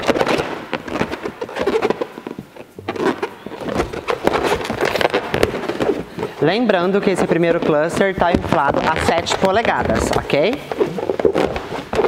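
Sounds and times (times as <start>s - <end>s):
balloons squeaking and rubbing: 0.0s - 12.0s.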